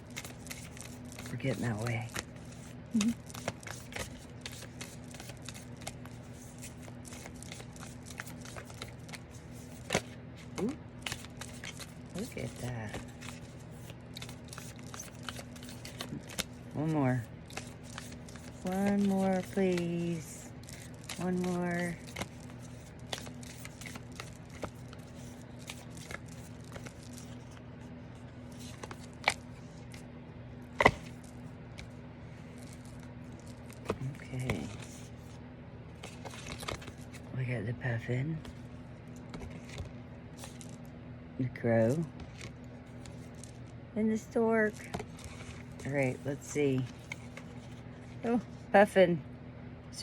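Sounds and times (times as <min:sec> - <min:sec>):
cards being shuffled: 0:00.0 - 0:30.1, 0:30.7 - 0:35.4, 0:36.0 - 0:37.3, 0:38.4 - 0:40.9, 0:44.6 - 0:48.6
faint steady hum: 0:00.0 - 0:50.0.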